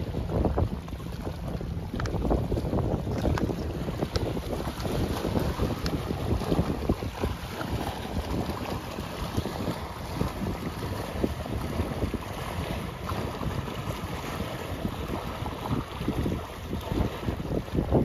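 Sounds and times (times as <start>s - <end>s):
sea waves: 0.0s - 18.0s
wind buffeting microphone: 0.0s - 18.0s.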